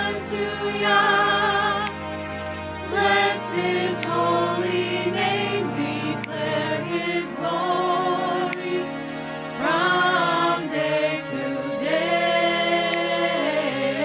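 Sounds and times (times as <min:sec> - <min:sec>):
gospel choir singing: 0:00.0 - 0:14.0
sustained keyboard chords: 0:00.0 - 0:14.0.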